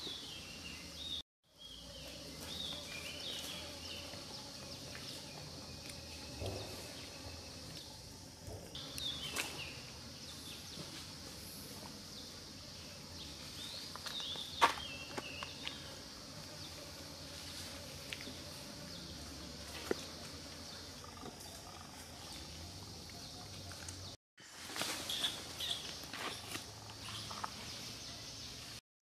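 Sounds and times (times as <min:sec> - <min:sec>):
high insect hum: 0:00.0 - 0:28.8.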